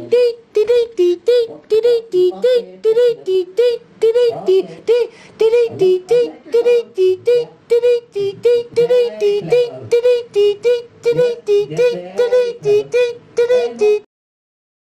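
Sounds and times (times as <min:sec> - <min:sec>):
high voice singing syllables: 0:00.0 - 0:14.1.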